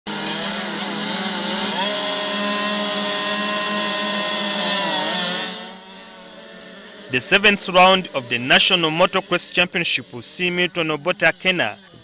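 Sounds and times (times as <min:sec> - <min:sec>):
motocross bikes revving: 0:00.1 - 0:12.0.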